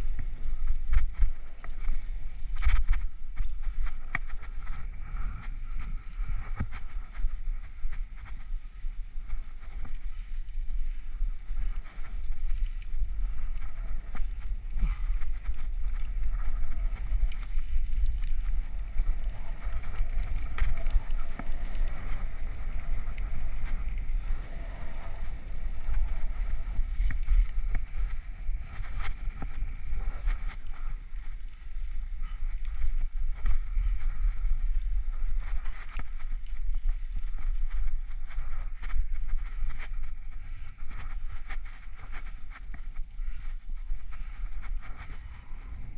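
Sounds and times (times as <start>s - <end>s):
bicycle rolling over rough asphalt: 0.0s - 45.9s
wind buffeting microphone: 0.0s - 45.9s.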